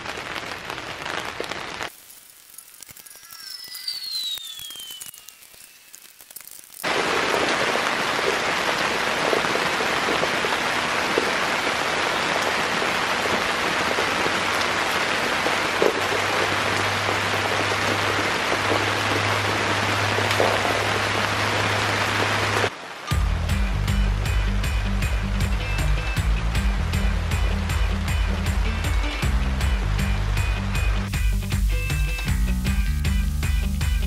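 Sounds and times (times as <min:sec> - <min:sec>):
steady rain hiss: 0:00.0 - 0:03.9, 0:04.8 - 0:34.0.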